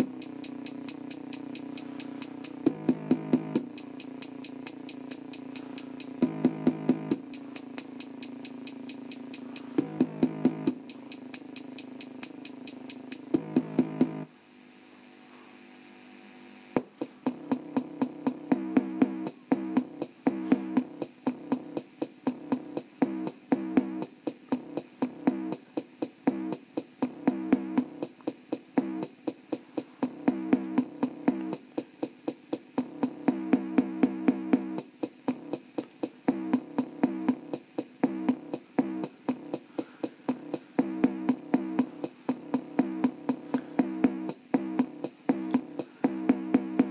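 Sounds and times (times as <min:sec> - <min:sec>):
electronic music with drum-machine beat: 0:00.0 - 0:14.3, 0:16.8 - 0:46.9.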